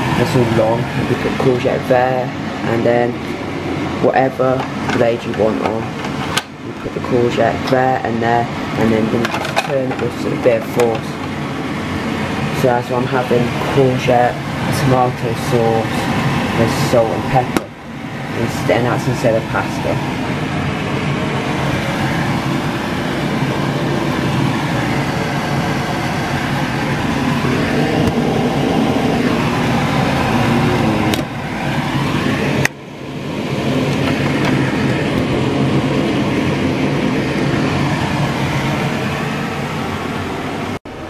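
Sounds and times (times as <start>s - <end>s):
extractor fan rushing and humming: 0.0s - 41.0s.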